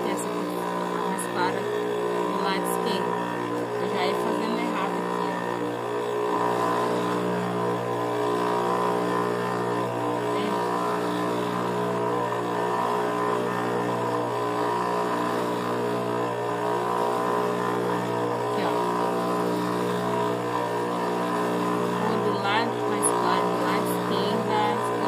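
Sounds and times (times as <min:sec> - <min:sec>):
sewing machine motor humming: 0:00.0 - 0:25.0.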